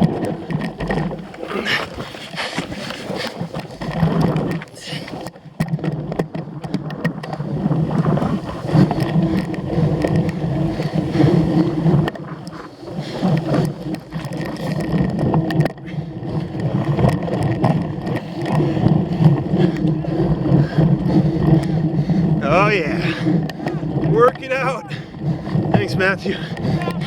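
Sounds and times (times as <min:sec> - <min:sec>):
bike tyre rumble and drivetrain: 0:00.0 - 0:27.0
wind buffeting microphone: 0:00.0 - 0:27.0.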